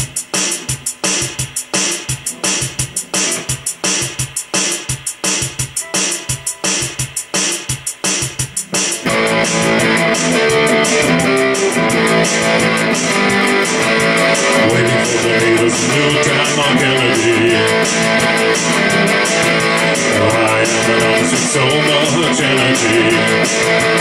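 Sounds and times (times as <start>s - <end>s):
electric guitar strumming: 0.0s - 24.0s.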